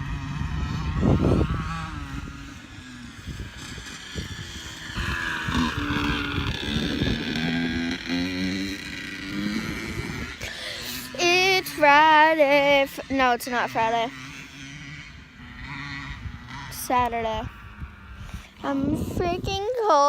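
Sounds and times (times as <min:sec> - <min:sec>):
distant dirt bike engine: 0:00.0 - 0:20.0
wind buffeting microphone: 0:00.0 - 0:20.0.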